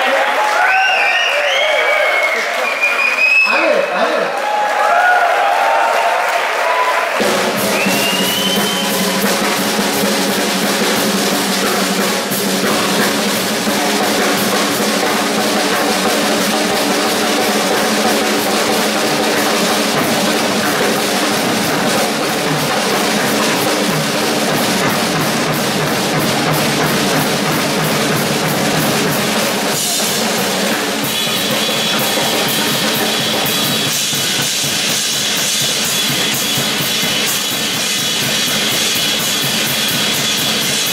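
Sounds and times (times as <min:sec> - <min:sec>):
fast drum kit drumming: 0:04.8 - 0:40.9
cymbals ringing: 0:07.2 - 0:40.9.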